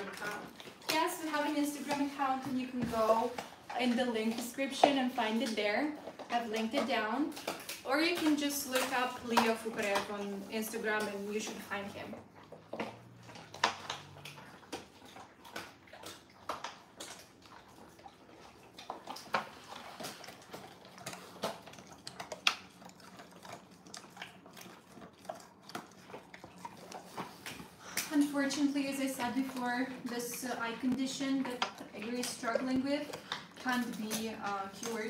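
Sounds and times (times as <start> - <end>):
dogs chewing crunchy treats: 0.0 - 35.0.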